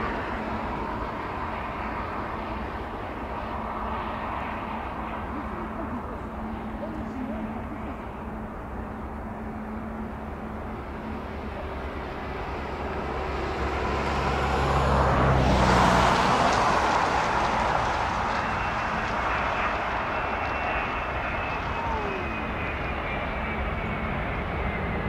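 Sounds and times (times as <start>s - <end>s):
airliner jet noise: 0.0s - 25.0s
thin steady jet whine: 0.0s - 25.0s.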